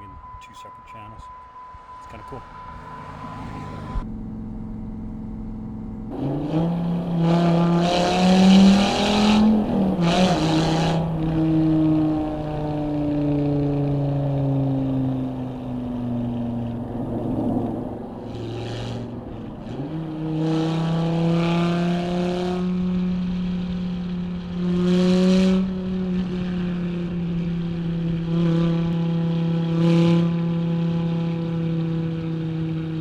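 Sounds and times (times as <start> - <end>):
sports car engine exhaust: 0.0 - 33.0.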